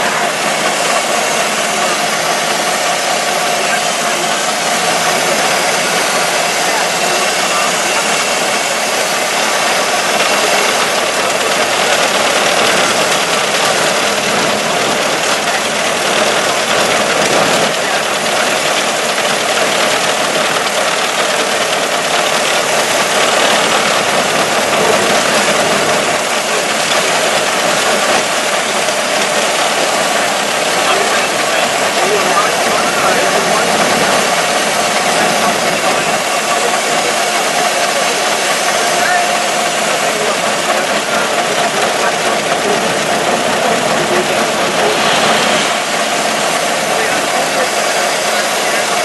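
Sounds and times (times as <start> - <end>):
old car engine running: 0.0 - 49.0.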